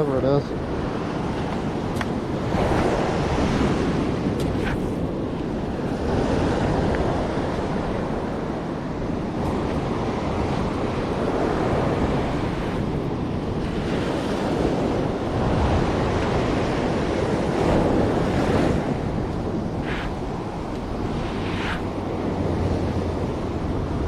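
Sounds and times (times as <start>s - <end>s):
ocean surf washing onto beach: 0.0s - 24.0s
wind buffeting microphone: 0.0s - 24.0s.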